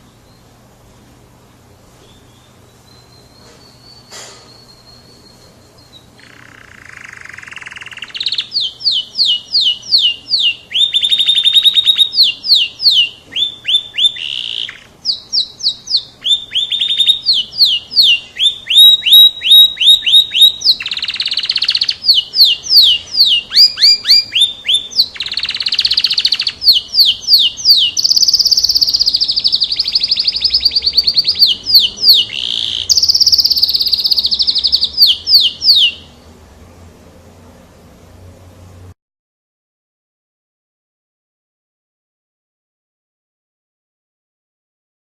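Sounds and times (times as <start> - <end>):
canary singing: 0.0 - 36.9.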